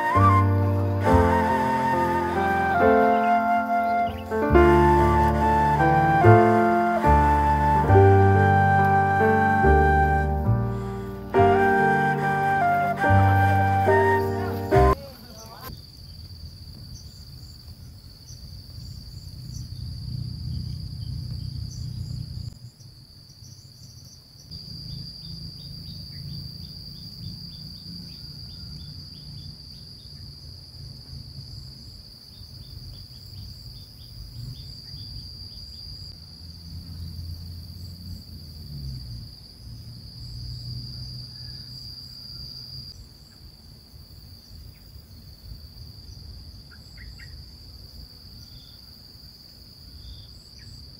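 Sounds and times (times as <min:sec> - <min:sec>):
insects trilling: 0:00.0 - 0:11.1, 0:14.9 - 0:50.9.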